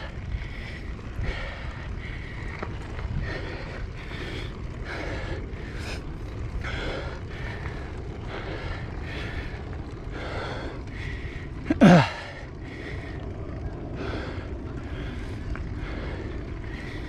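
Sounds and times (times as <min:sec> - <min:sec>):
heavy rhythmic breathing: 0:00.0 - 0:17.0
wind rumble on microphone: 0:00.0 - 0:17.0.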